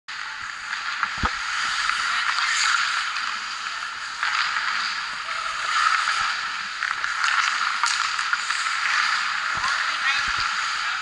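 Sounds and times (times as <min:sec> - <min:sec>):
skate blades scraping ice: 0:00.1 - 0:11.0.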